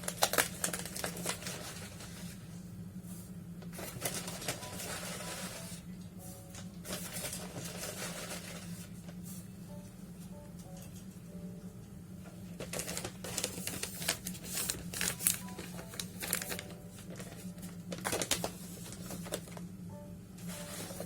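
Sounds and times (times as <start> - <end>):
crinkling rustling handling sounds: 0.0 - 9.5, 12.2 - 19.7, 20.4 - 21.0
steady low hum: 0.0 - 21.0.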